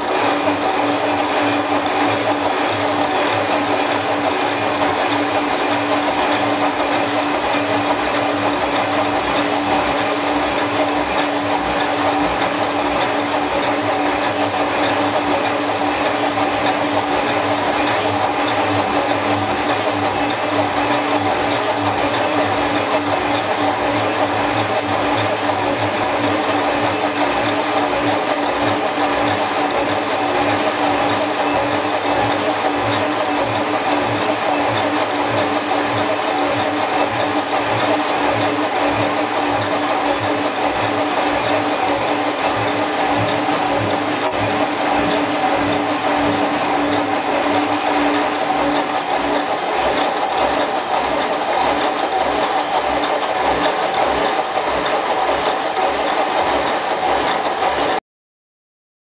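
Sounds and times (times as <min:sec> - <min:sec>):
lathe drone with hum and whine: 0:00.0 - 0:58.0.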